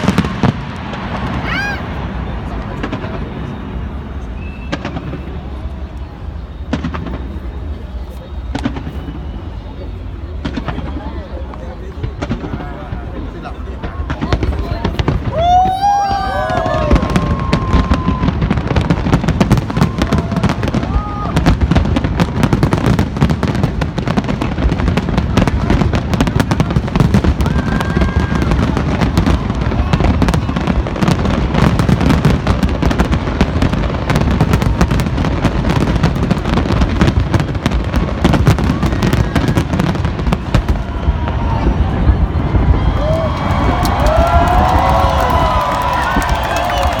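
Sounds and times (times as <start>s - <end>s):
firework whistles: 0.0s - 47.0s
fireworks bangs and crackles: 0.0s - 47.0s.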